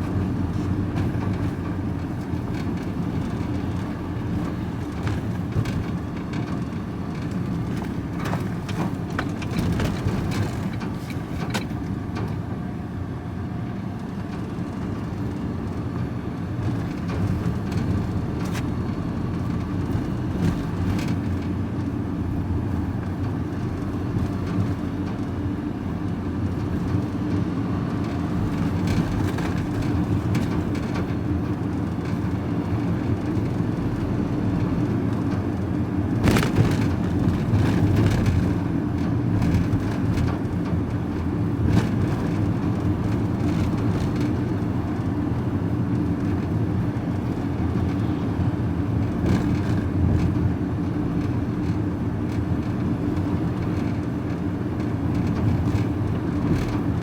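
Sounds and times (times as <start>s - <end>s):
vehicle engine and road drone: 0.0s - 57.0s.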